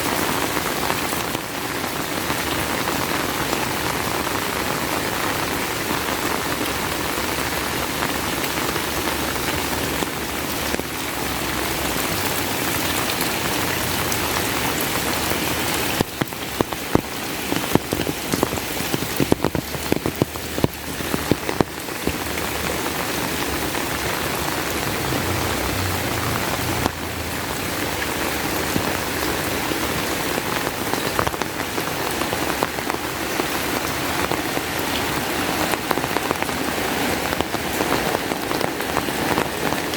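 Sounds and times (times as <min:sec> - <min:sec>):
heavy rain falling: 0:00.0 - 0:39.9
loud raindrops striking close: 0:00.0 - 0:39.9.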